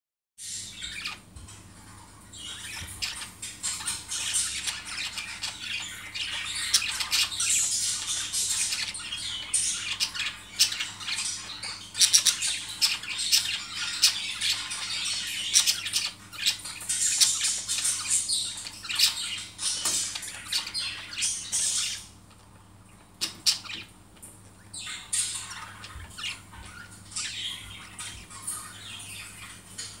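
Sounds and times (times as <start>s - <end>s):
budgerigars chirping and squawking: 0.4s - 30.0s.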